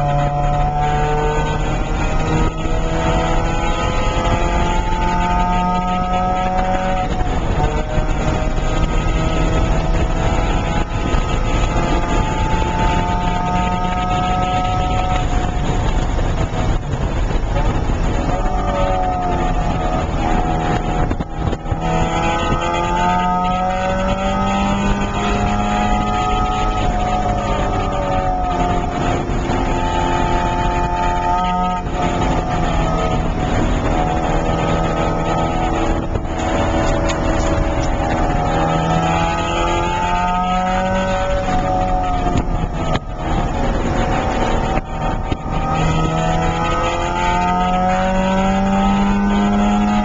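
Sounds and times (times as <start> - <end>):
car engine accelerating hard: 0.0 - 50.0
road and wind noise: 0.0 - 50.0.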